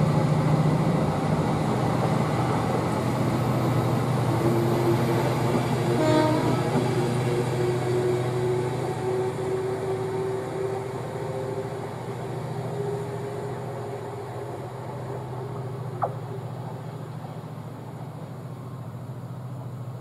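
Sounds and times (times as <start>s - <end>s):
diesel train pulling away: 0.0s - 20.0s.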